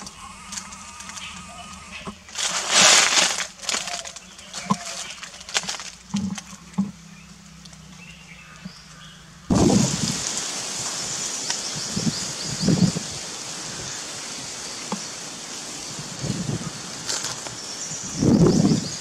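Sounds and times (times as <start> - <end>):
dry leaves crackling and rustling: 0.0 - 19.0
steady hiss: 0.0 - 19.0.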